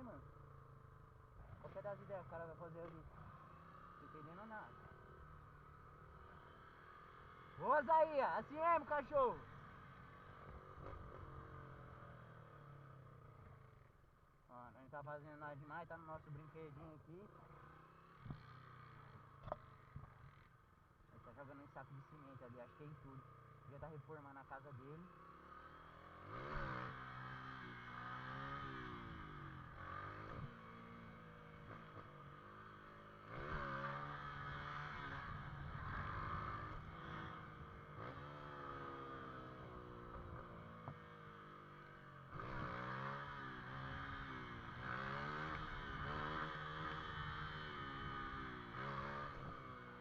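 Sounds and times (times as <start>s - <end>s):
motorcycle engine revving: 0.0s - 14.0s, 22.4s - 50.0s.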